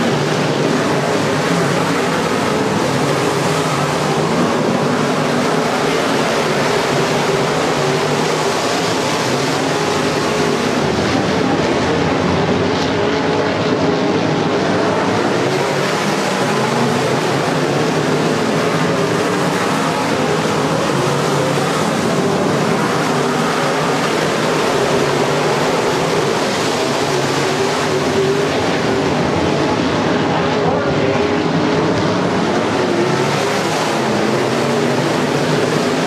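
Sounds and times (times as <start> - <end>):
race car engines roaring: 0.0 - 36.0.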